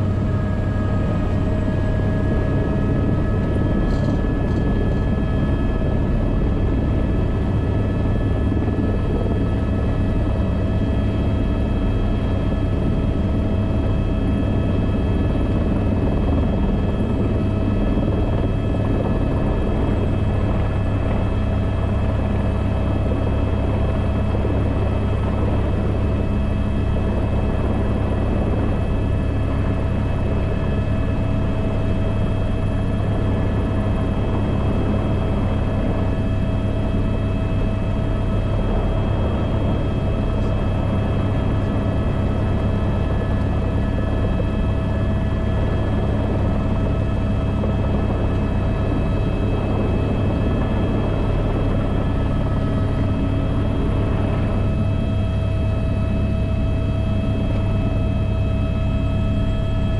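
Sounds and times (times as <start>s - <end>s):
helicopter turbine and rotor whine: 0.0s - 59.9s.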